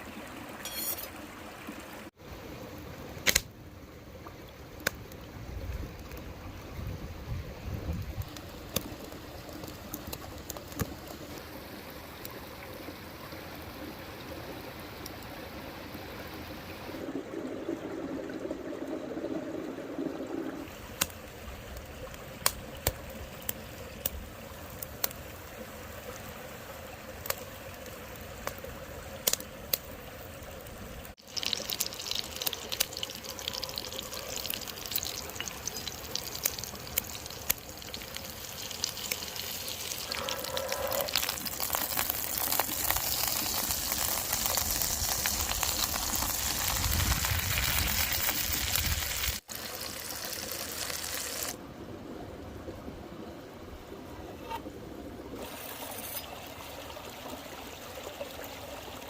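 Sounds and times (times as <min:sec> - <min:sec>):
river water running: 0:08.2 - 0:59.0.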